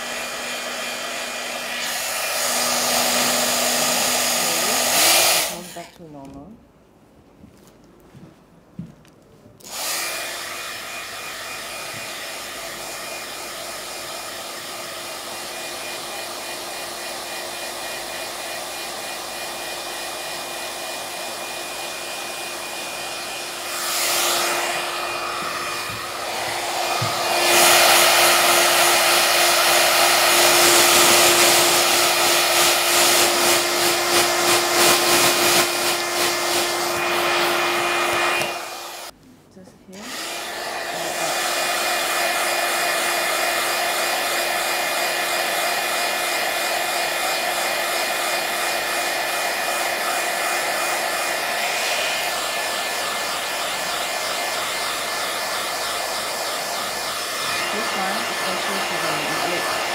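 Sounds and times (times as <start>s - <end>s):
small fan blowing air: 9.6s - 39.1s, 39.9s - 59.9s.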